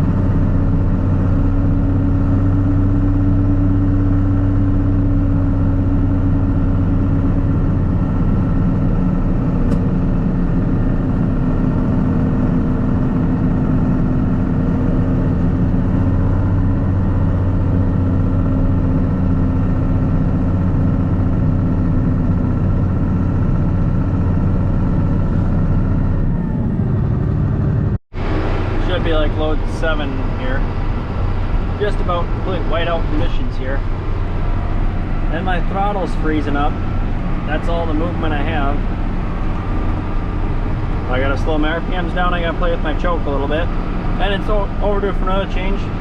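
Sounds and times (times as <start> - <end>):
tractor engine humming: 0.0 - 46.0.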